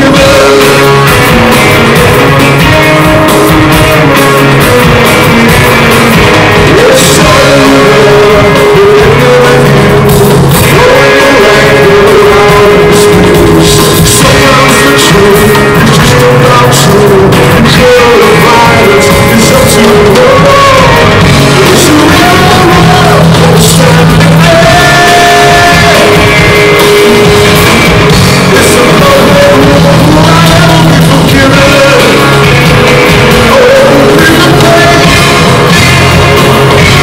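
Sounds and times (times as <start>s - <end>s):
bass guitar: 0.0s - 37.0s
drums: 0.0s - 37.0s
electric guitar: 0.0s - 37.0s
person singing: 0.0s - 37.0s.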